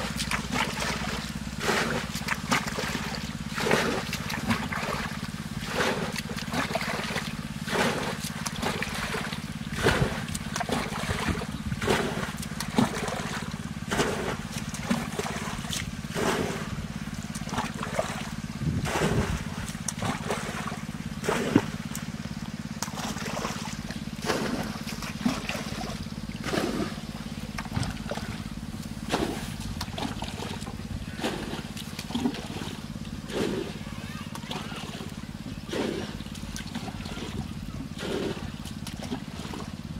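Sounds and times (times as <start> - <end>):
steady low hum: 0.0 - 39.9
water splashing and trickling: 0.0 - 39.9.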